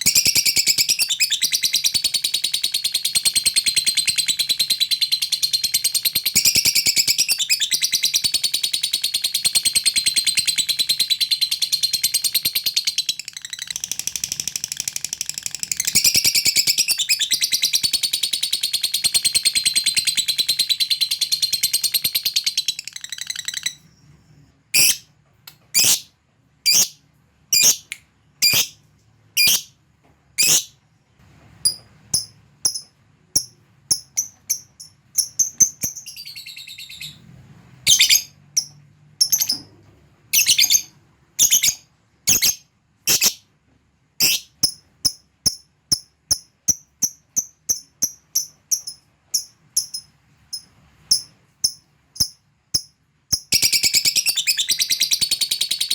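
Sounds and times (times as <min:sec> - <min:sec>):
lovebird chattering and chirping: 0:00.0 - 0:23.9, 0:24.7 - 0:28.8, 0:29.4 - 0:29.7, 0:30.4 - 0:30.8, 0:31.6 - 0:37.2, 0:37.8 - 0:39.7, 0:40.3 - 0:43.4, 0:44.2 - 0:55.9.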